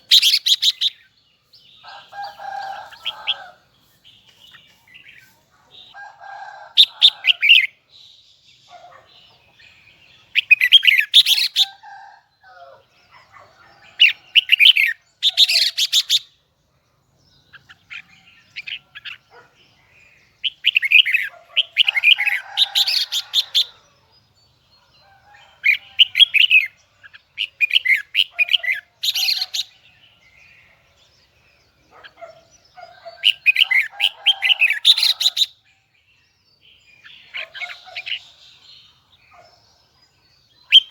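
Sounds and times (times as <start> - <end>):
bird warbling song: 0.0 - 40.9.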